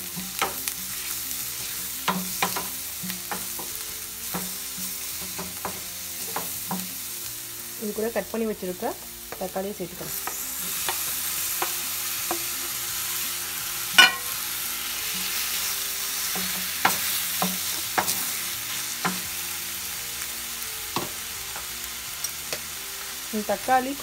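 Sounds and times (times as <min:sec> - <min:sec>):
tomatoes sizzling in hot oil: 0:00.0 - 0:24.0.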